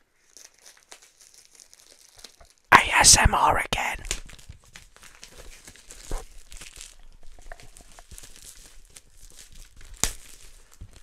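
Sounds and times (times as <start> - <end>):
shrink-wrap crinkling: 0.2 - 2.7, 4.2 - 11.0.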